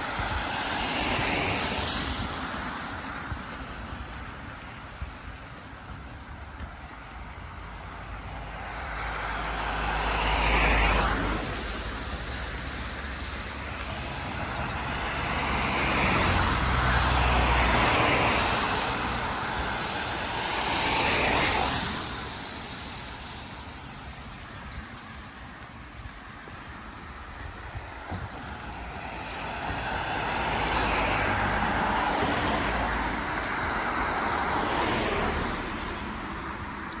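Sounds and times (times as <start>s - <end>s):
road vehicles passing: 0.0s - 37.0s.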